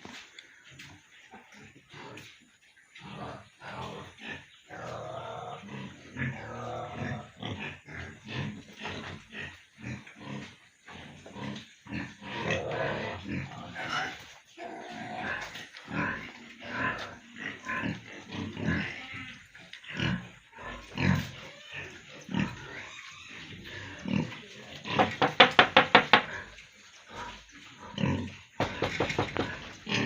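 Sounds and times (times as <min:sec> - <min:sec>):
pigs grunting: 0:00.4 - 0:30.0.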